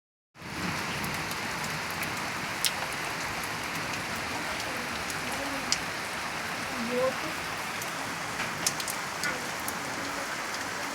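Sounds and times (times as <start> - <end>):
heavy rain: 0.4 - 10.9.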